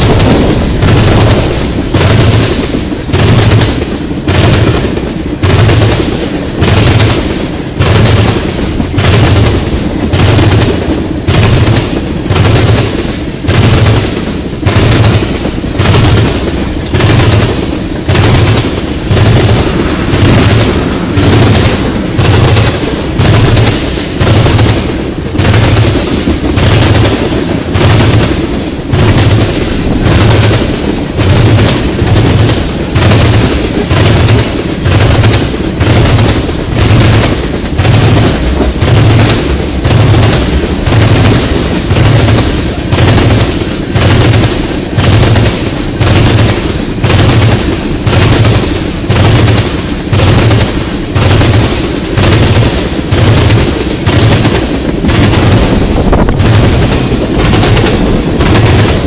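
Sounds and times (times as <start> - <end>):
rolling rumble of train: 0.0 - 59.0
train wheels clattering on track: 0.0 - 59.0.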